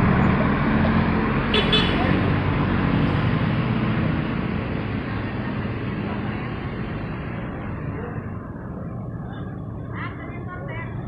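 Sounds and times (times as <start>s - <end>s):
bus driving past: 0.0s - 11.0s.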